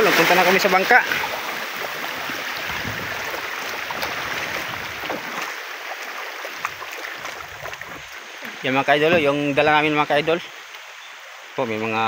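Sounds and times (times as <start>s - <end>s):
wading through shallow seawater: 0.0s - 11.6s.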